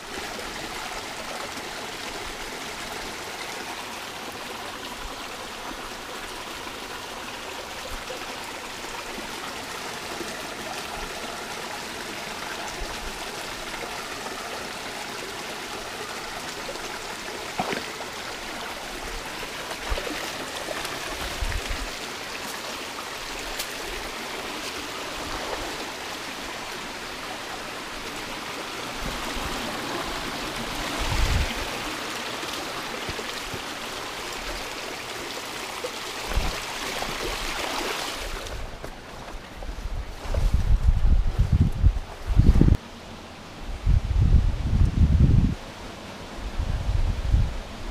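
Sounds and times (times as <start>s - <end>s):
stream running over rocks: 0.0s - 47.9s.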